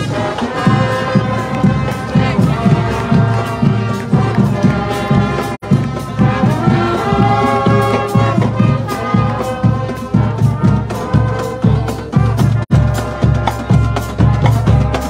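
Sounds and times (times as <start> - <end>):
brass section holding chords: 0.0 - 15.0
snare and bass drum beat: 0.0 - 15.0.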